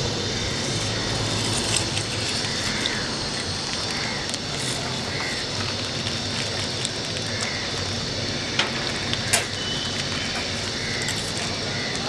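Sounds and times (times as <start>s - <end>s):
hot oil sizzling: 0.0s - 12.0s
oil popping: 0.0s - 12.0s.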